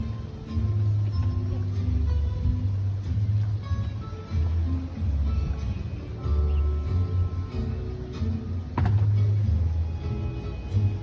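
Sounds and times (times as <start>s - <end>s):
deep bass line: 0.0s - 11.0s.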